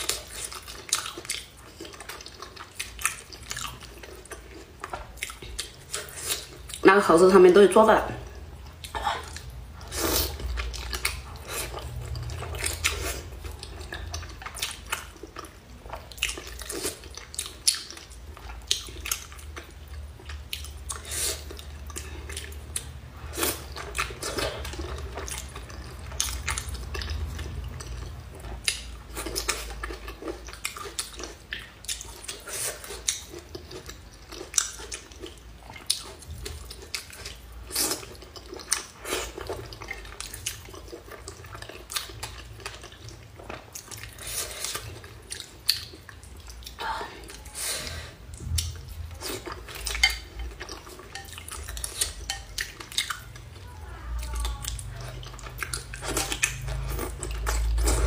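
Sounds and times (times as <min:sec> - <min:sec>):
chewing and lip smacking: 0:00.0 - 0:06.8, 0:08.5 - 0:47.6, 0:48.2 - 0:58.0.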